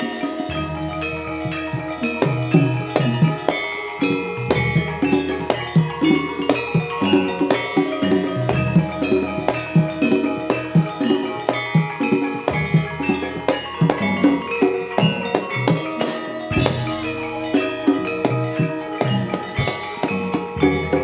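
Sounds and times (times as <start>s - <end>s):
hand drums beating: 0.0s - 21.0s
ringing struck metal tones: 0.0s - 21.0s.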